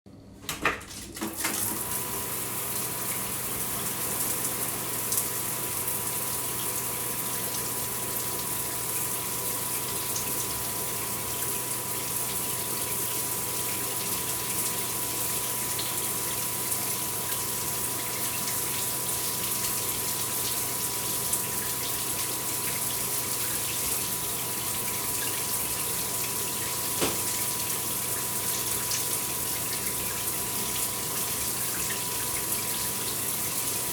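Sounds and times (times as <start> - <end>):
electric shower unit humming: 0.1 - 33.9.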